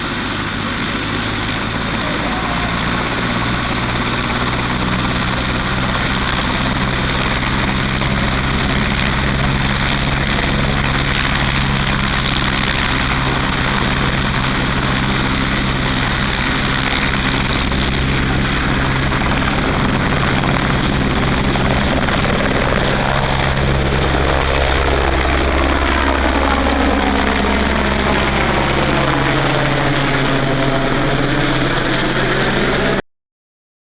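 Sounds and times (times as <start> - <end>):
helicopter taking off: 0.0 - 33.0.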